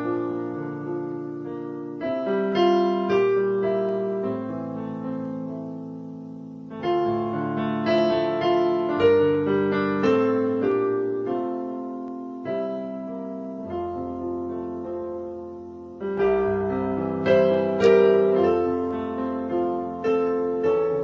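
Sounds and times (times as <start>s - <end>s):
piano playing slow hymn: 0.0s - 21.0s.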